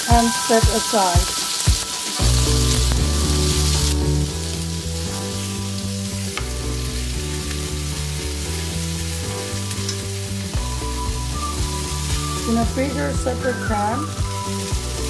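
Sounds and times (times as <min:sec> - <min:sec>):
food frying in oil: 0:00.0 - 0:15.0
soft background music: 0:00.0 - 0:15.0.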